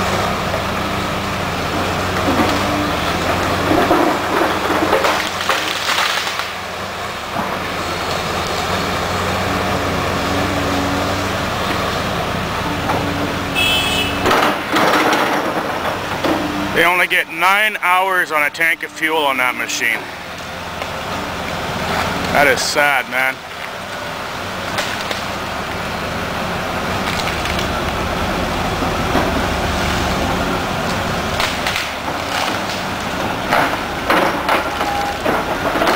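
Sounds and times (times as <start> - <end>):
excavator diesel engine running: 0.0 - 35.9
wood cracking and splintering: 0.2 - 13.4, 14.2 - 35.9.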